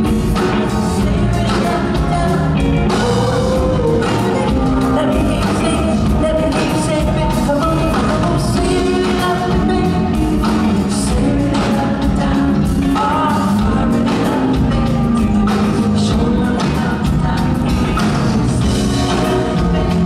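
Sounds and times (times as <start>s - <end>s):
live r and b band playing: 0.0s - 20.0s
man singing into a microphone: 0.0s - 20.0s.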